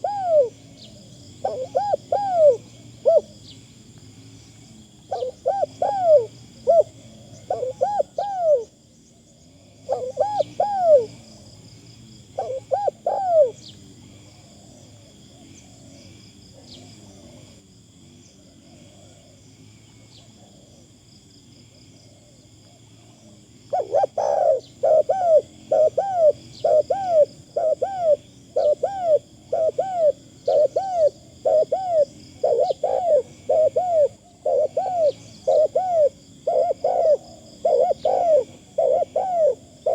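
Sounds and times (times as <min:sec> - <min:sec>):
dove cooing: 0:00.0 - 0:03.6, 0:05.0 - 0:08.8, 0:09.7 - 0:17.6, 0:22.1 - 0:39.9.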